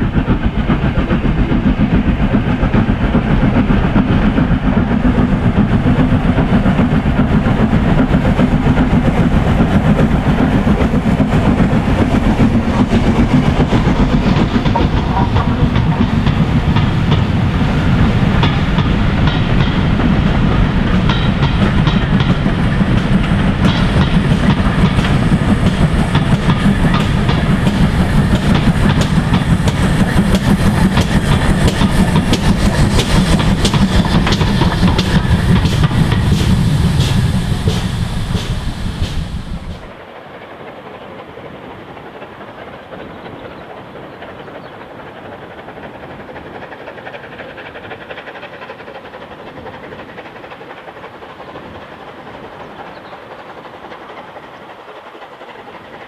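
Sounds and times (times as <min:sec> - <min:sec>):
steam train passing: 0:00.0 - 0:56.0.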